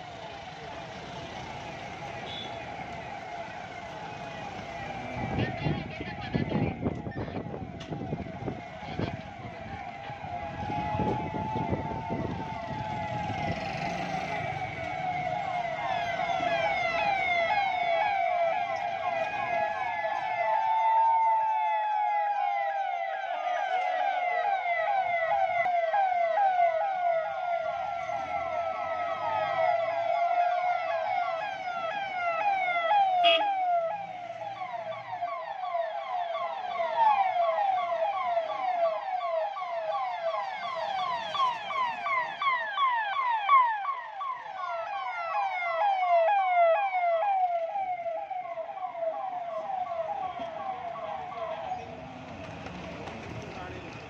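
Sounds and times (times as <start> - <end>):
wailing sirens: 0.0 - 54.0
yelping sirens: 0.0 - 54.0.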